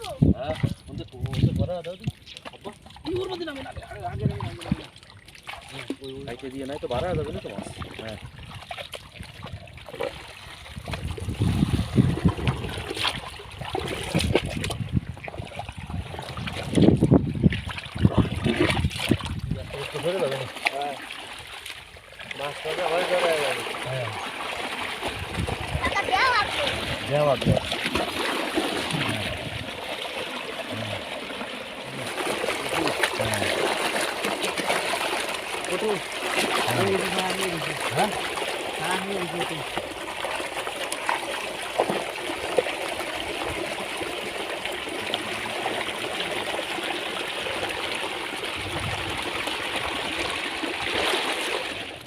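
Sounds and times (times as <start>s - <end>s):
water sloshing and splashing: 0.0s - 52.0s.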